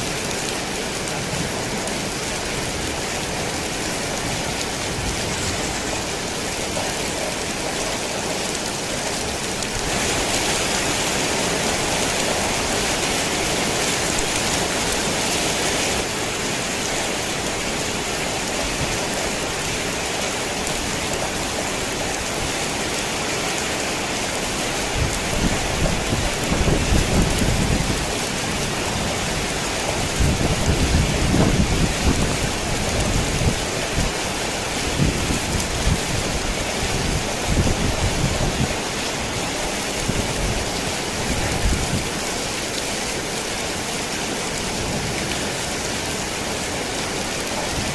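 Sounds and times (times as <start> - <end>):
heavy rain on a tin roof: 0.0 - 47.9.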